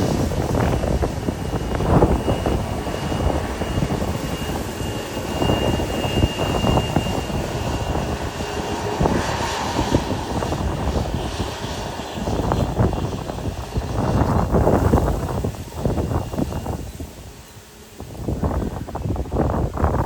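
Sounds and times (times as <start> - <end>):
faint high whine: 0.0 - 20.0
jet engines rushing: 0.0 - 20.0.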